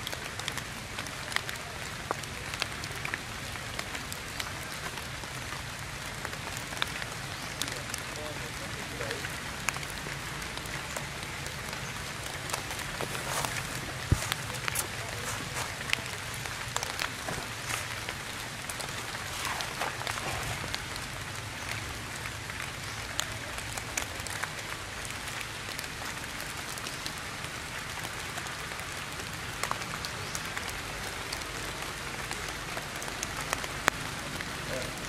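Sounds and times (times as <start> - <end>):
rain on foliage: 0.0 - 35.0.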